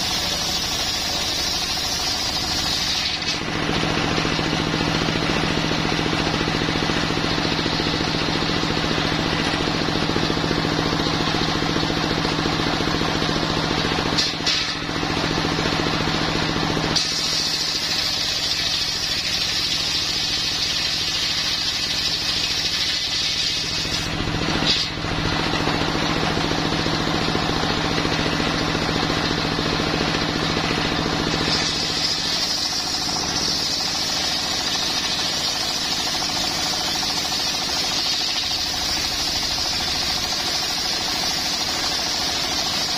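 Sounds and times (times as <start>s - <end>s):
saw blade cutting whine: 0.0s - 42.9s
stationary engine running: 0.0s - 42.9s.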